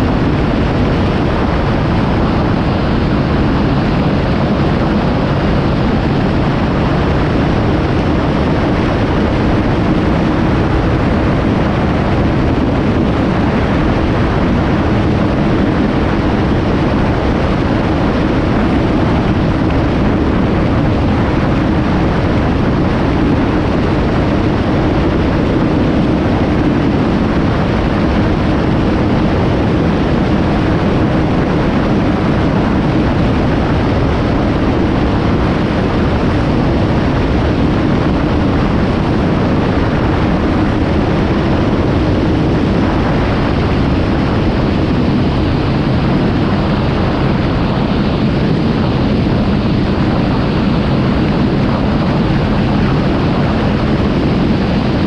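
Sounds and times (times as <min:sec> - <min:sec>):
wind rush on microphone: 0:00.0 - 0:55.0.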